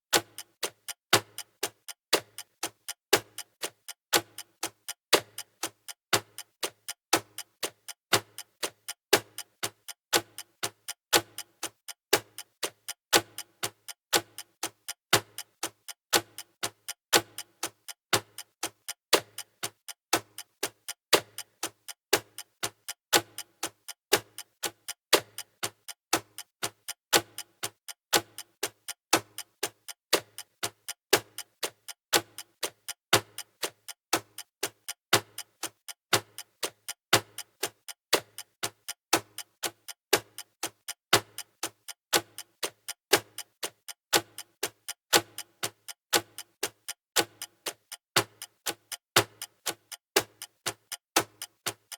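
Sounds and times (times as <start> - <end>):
clock ticking: 0.1 - 51.9.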